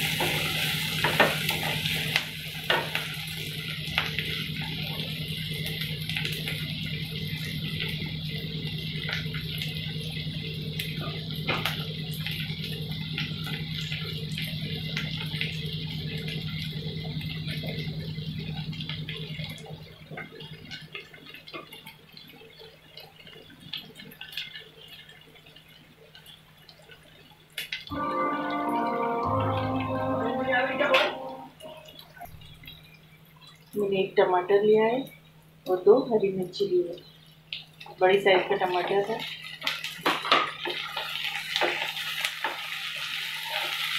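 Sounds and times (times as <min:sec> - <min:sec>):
onions sizzling and crackling: 0:00.0 - 0:32.0, 0:35.6 - 0:43.9.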